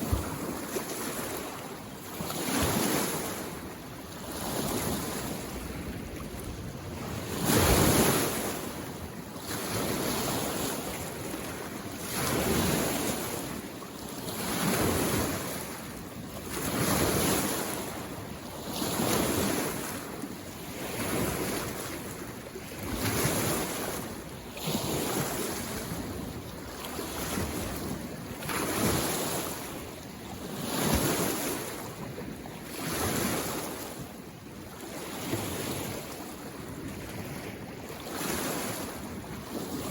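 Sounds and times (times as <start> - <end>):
lake waves washing ashore: 0.0 - 39.9.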